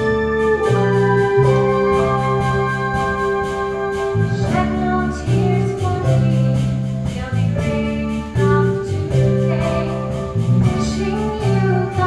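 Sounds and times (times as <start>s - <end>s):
live band playing slow ballad: 0.0s - 12.0s
plucked string instrument chords: 0.0s - 12.0s.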